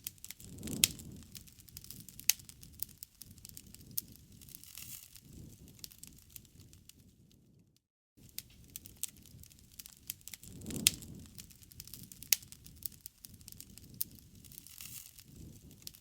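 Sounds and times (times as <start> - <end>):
loud fire pops: 0.0 - 7.5, 8.2 - 16.0
low rumble of flame: 0.0 - 16.0
wood fire crackling: 0.0 - 16.0.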